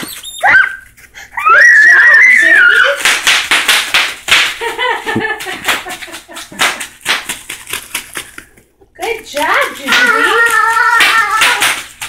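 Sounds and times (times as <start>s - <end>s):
bubble wrap popping: 1.6s - 12.0s.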